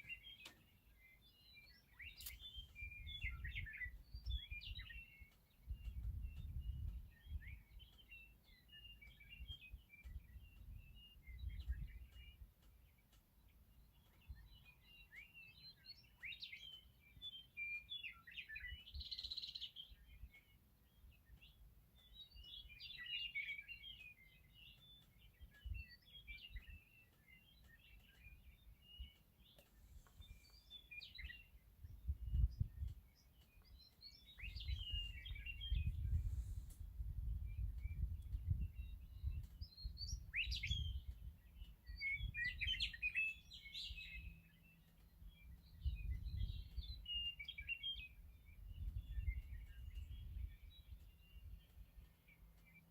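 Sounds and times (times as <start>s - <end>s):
birds singing warbled phrases: 0.0s - 52.9s.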